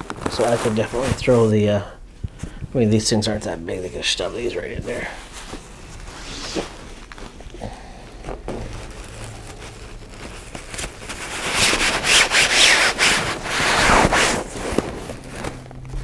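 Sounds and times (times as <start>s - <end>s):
stuff sack rustling: 0.0s - 1.6s, 3.8s - 16.0s.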